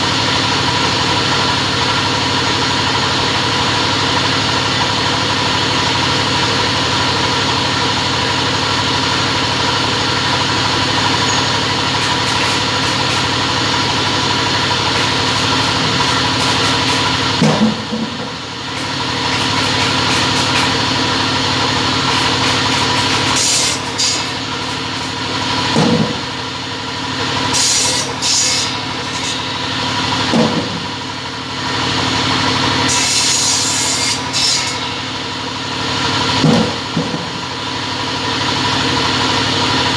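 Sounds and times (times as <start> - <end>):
cutting machine humming: 0.0 - 39.9.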